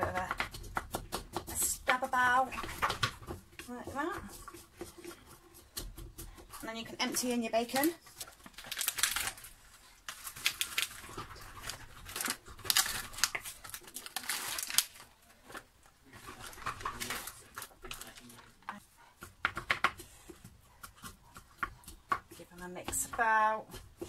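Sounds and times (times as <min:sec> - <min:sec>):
wooden spatula scraping pan: 0:00.0 - 0:14.6, 0:15.4 - 0:24.0.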